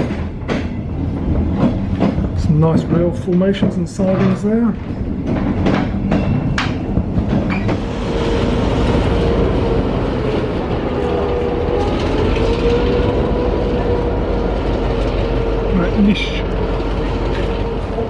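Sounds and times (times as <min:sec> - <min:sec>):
train rumble on track: 0:00.0 - 0:18.0.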